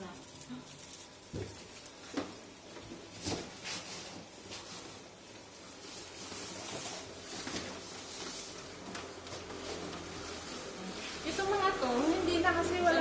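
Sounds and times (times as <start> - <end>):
plastic bags and cloth rustling: 0.0 - 13.0.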